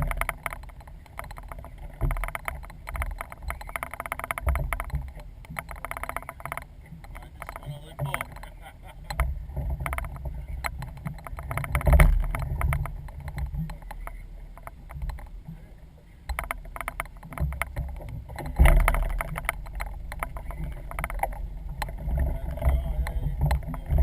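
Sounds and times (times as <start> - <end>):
rapid knocking and clatter: 0.0 - 15.4, 16.3 - 24.0
boat engine rumble: 0.0 - 24.0.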